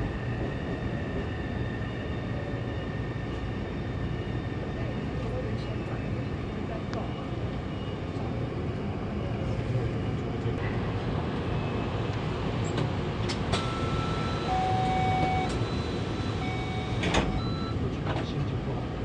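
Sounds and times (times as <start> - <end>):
train cabin noise: 0.0 - 19.0.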